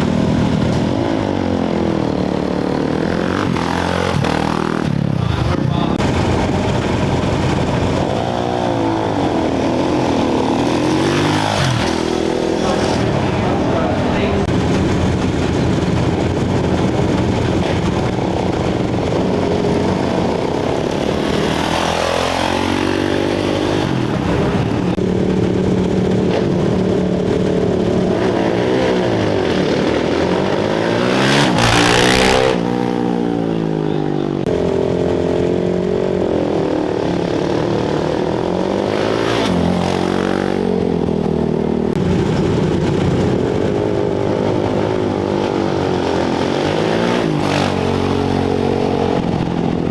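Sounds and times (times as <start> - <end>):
motorcycles revving and passing: 0.0 - 49.9.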